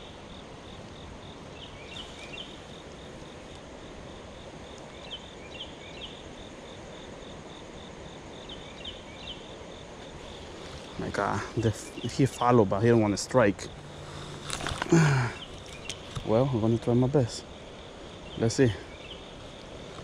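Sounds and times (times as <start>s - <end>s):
crickets trilling: 0.0s - 20.0s
outdoor background hiss: 0.0s - 20.0s.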